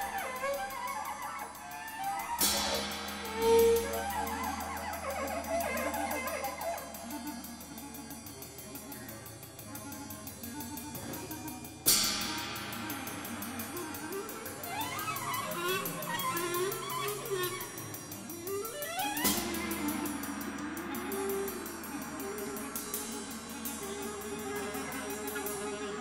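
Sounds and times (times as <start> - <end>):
music with gliding melody: 0.0 - 26.0.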